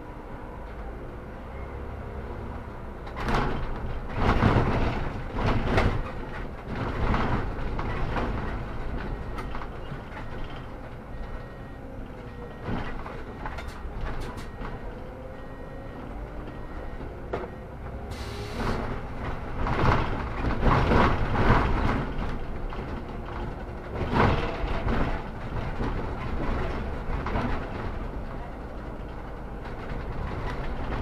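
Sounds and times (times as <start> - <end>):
bus engine low rumble: 0.0 - 31.0
bus rattles and knocks: 0.0 - 31.0.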